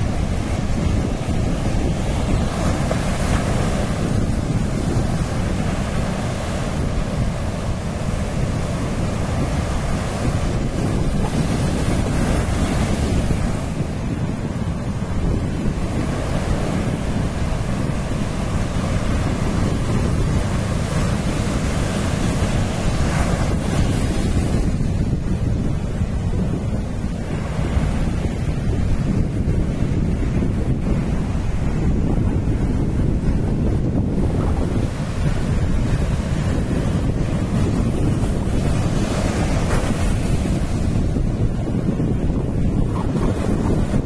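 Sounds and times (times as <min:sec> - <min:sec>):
ocean surf breaking: 0:00.0 - 0:44.0
wind buffeting microphone: 0:00.0 - 0:44.0.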